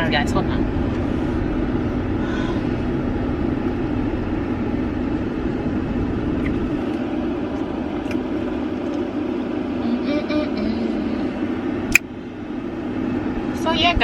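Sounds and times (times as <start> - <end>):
car engine hum inside cabin: 0.0 - 14.0.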